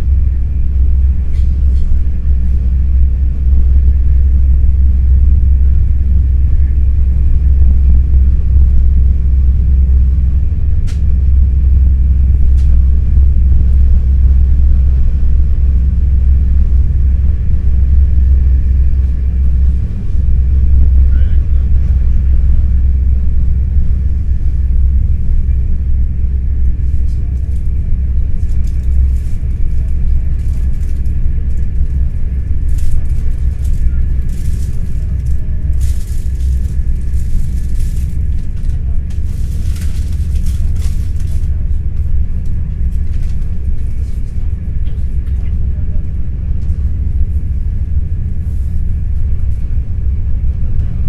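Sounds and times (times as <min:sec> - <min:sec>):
electric train rumble from inside: 0:00.0 - 0:51.0
faint steady hum: 0:00.0 - 0:51.0.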